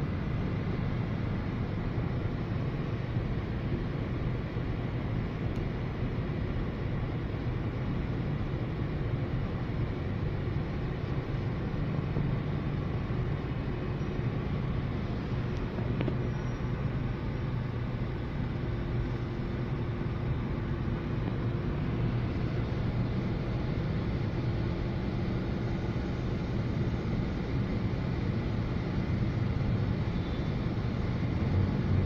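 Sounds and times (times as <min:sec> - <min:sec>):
traffic idling rumble: 0:00.0 - 0:32.0.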